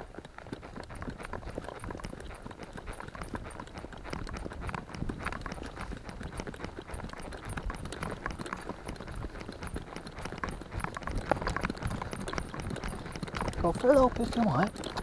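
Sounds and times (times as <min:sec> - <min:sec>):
horse hoofbeats: 0:00.0 - 0:15.0.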